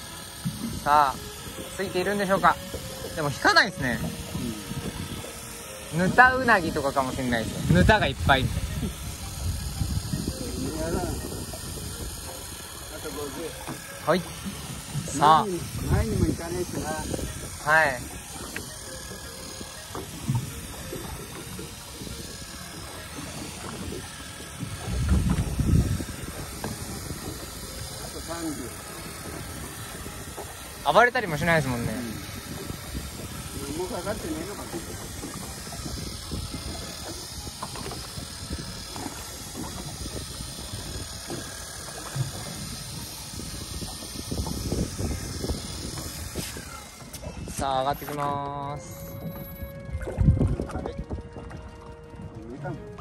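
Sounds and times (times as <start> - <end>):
fishing reel ratchet clicking: 0.0 - 49.8
water and boat noise: 0.0 - 53.0.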